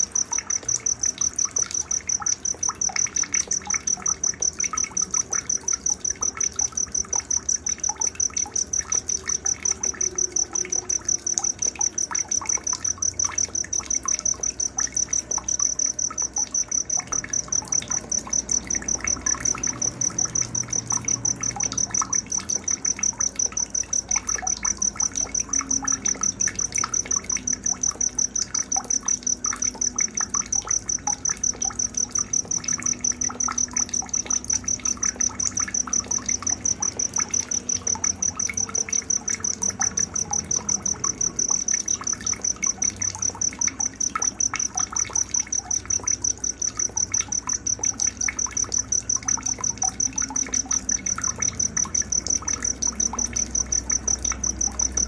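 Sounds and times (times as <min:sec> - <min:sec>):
pulsing insect chirp: 0:00.0 - 0:55.0
water trickling: 0:00.0 - 0:55.0.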